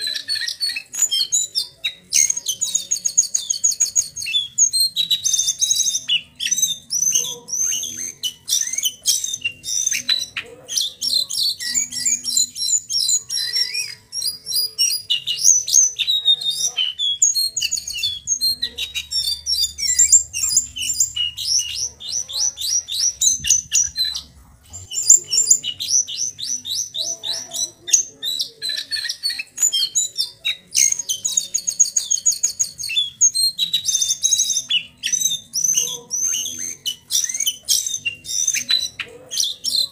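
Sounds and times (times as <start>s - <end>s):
bird singing trills and chatter: 0.0s - 39.9s.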